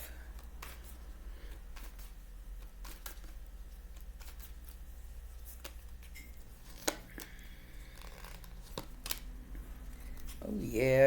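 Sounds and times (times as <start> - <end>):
low steady hum: 0.0 - 11.0
cards tapping and sliding: 0.3 - 4.8, 5.4 - 10.4.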